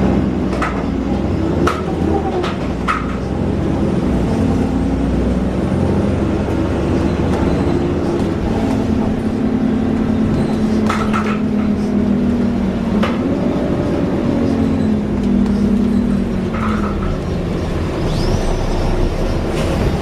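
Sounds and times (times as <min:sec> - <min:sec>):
bus drivetrain droning: 0:00.0 - 0:20.0.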